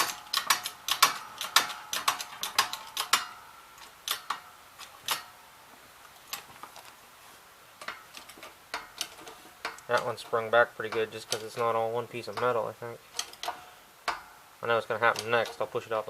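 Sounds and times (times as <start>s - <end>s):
metallic clicks and clanks: 0.0s - 5.4s, 6.2s - 6.9s, 7.8s - 15.8s.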